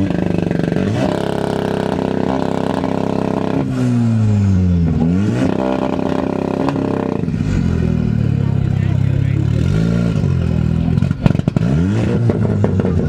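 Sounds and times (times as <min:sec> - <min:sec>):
car engine revving high: 0:00.0 - 0:13.0.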